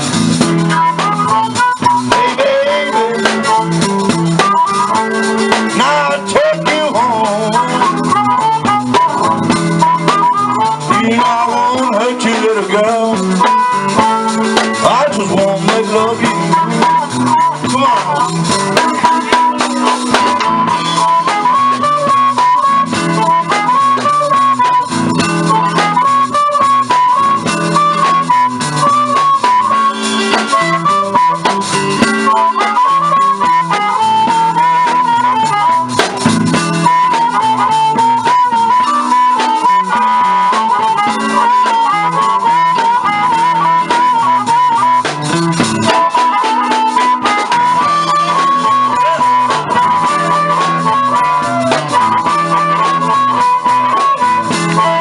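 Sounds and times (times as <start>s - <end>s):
harmonica lead: 0.0s - 55.0s
live blues band: 0.0s - 55.0s.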